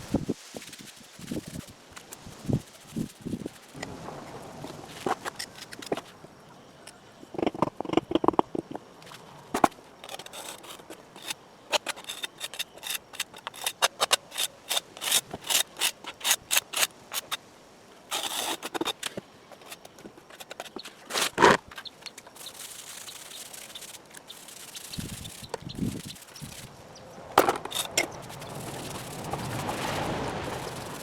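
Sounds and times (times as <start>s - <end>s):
hand tool scraping: 0.5s - 3.8s, 4.9s - 6.2s, 7.4s - 17.4s, 18.1s - 26.7s, 27.4s - 31.0s.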